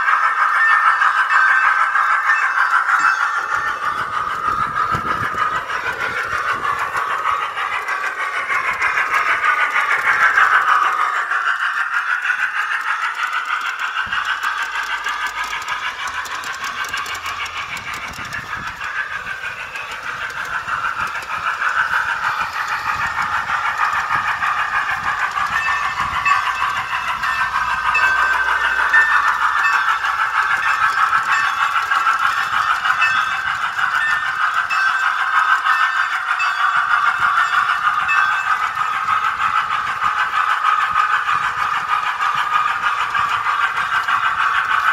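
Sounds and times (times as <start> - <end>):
tinny model train locomotive sounds: 0.0 - 44.9.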